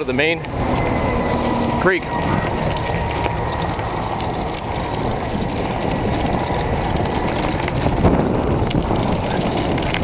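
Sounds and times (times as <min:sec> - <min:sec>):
bike tyres crunching on gravel: 0:00.0 - 0:10.0.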